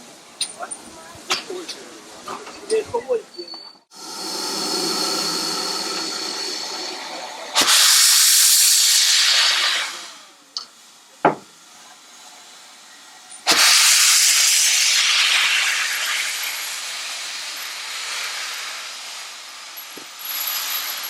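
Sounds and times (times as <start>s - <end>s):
steam locomotive hissing blasts: 3.8s - 21.0s.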